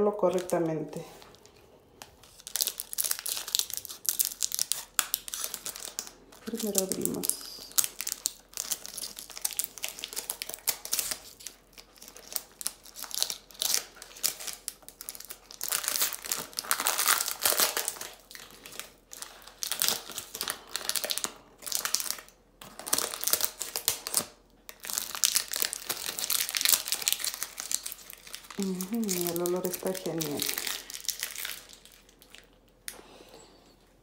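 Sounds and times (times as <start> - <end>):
plastic wrapper crinkling: 0.0 - 33.0.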